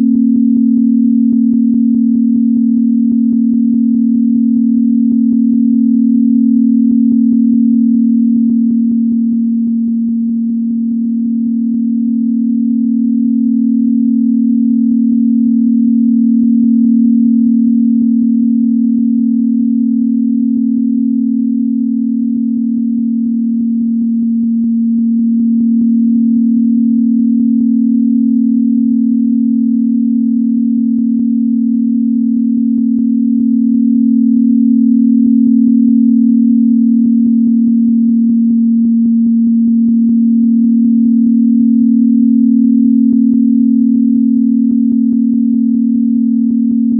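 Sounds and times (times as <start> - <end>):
low electronic sine tone: 0.0 - 46.9.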